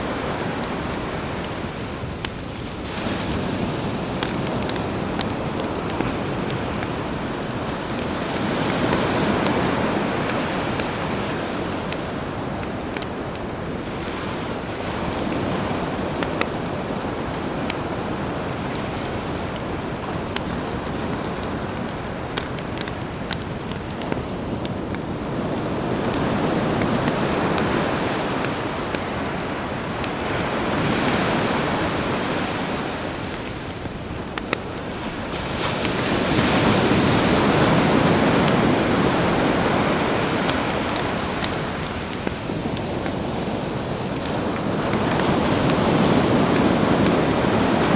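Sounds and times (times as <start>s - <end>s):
campfire crackling and popping: 0.0s - 47.9s
sea waves: 0.0s - 47.9s.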